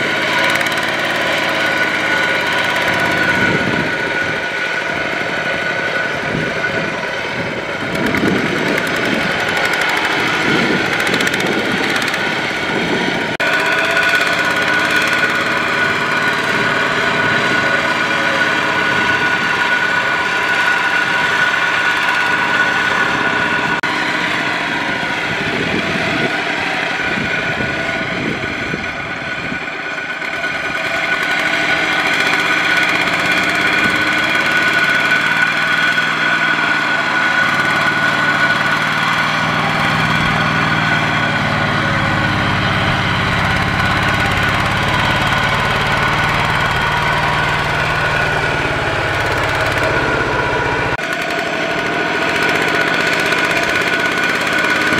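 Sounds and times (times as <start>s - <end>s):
deeper engine drone: 0.0s - 54.9s
diesel tractor engine chugging: 0.0s - 54.9s.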